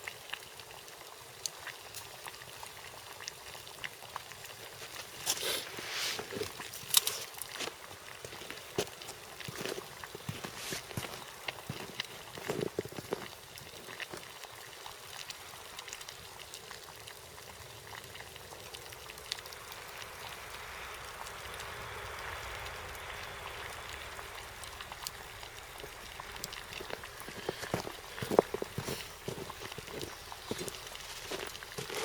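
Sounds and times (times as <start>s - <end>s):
water boiling in a pot: 0.0s - 32.0s.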